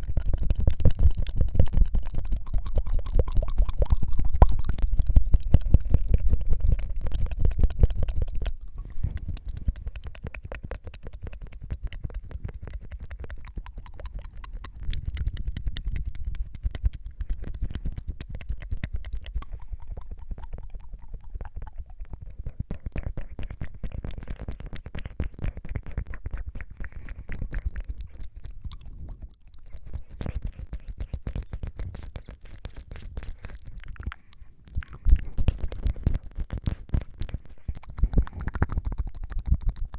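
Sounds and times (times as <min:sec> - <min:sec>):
tongue fluttering mouth clicks: 0:00.0 - 0:39.9.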